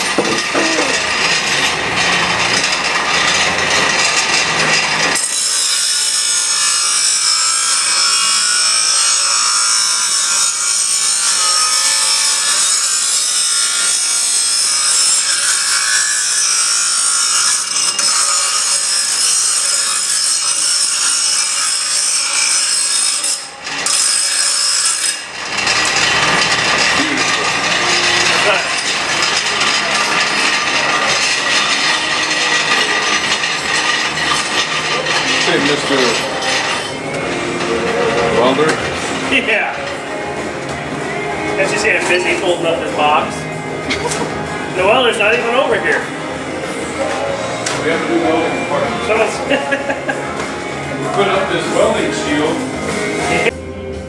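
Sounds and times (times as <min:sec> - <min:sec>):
bench grinder grinding metal: 0:00.0 - 0:53.6.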